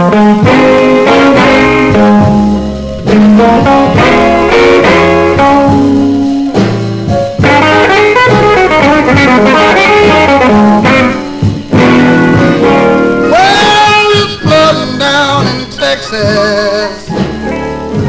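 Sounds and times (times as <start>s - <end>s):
slow blues guitar and horns: 0.0s - 18.0s.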